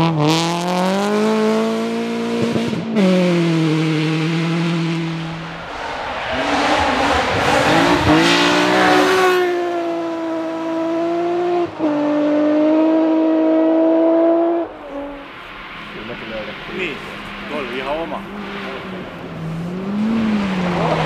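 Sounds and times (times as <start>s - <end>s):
rally car engine revving: 0.0s - 21.0s
tyres rushing on road: 0.0s - 21.0s.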